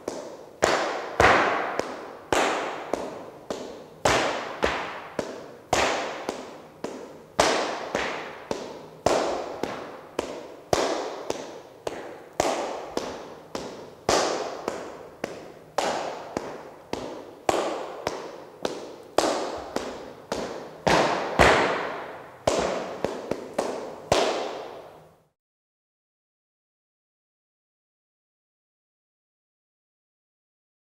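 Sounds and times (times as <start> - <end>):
rhythmic handclaps: 0.0 - 24.9.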